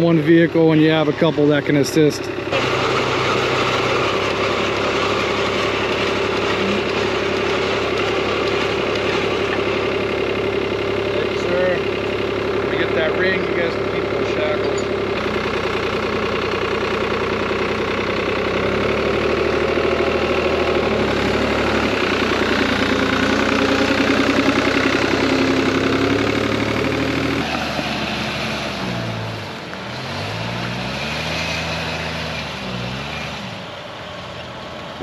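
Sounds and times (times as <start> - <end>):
engines and winches humming: 0.0 - 35.0.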